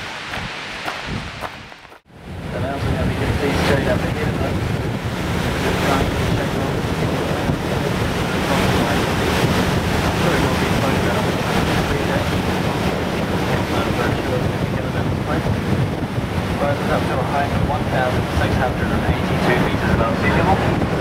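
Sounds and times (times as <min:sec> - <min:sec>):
water rushing: 0:00.0 - 0:21.0
wind on microphone: 0:00.0 - 0:21.0.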